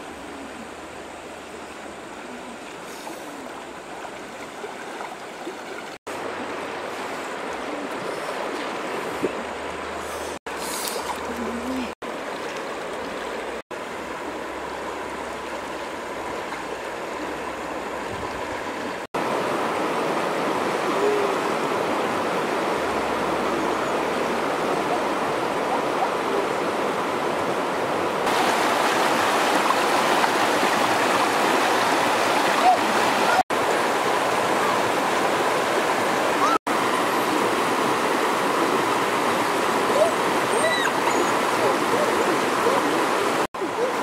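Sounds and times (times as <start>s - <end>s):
river rushing over rapids: 0.0s - 44.0s.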